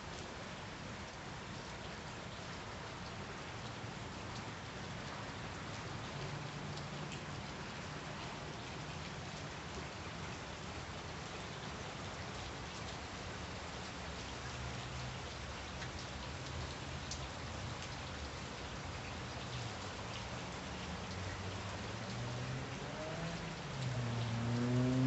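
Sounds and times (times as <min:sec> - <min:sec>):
steady rain on pavement: 0:00.0 - 0:25.0.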